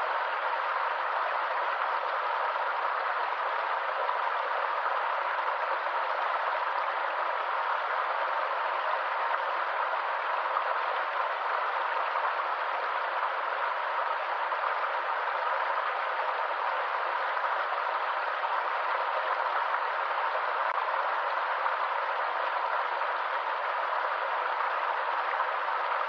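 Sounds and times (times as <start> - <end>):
stream water running: 0.0 - 26.0.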